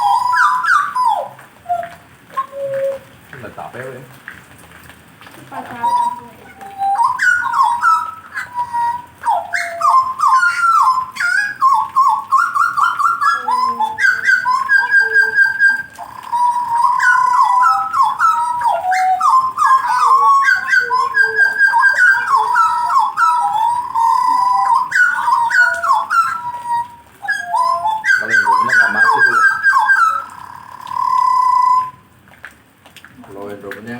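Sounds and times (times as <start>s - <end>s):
songbird singing: 0.0s - 4.2s, 5.4s - 32.0s.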